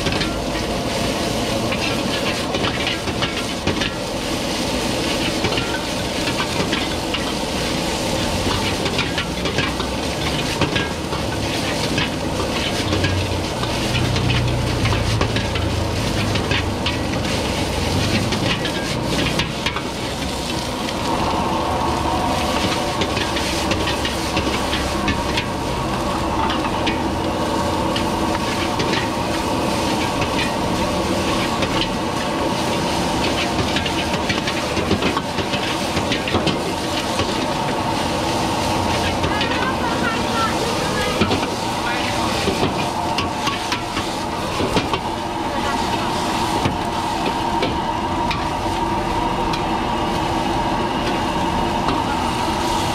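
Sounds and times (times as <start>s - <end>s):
metal ladles scraping pans: 0.0s - 21.1s, 22.4s - 48.5s
gas burners: 0.0s - 52.9s
rice sizzling in woks: 0.0s - 52.9s.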